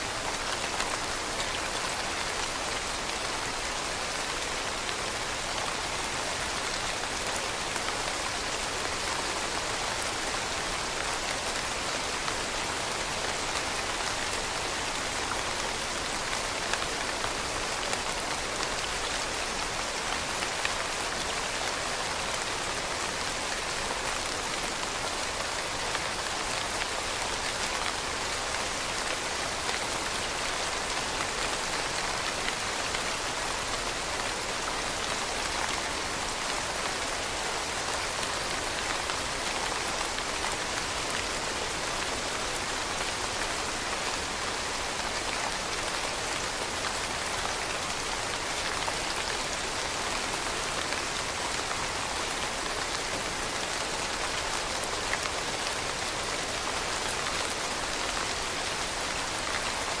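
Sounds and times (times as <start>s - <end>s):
rain falling on leaves: 0.0s - 60.0s.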